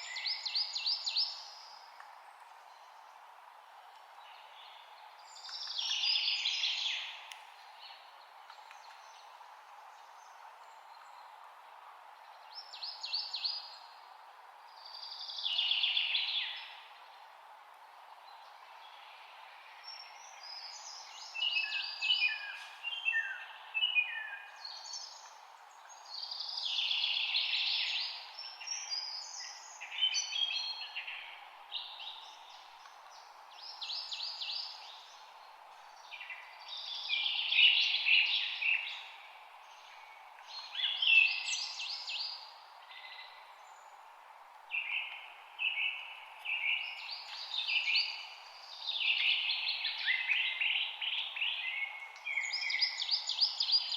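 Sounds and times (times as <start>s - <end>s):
low background hiss: 0.0s - 53.9s
songbirds singing: 0.0s - 53.9s.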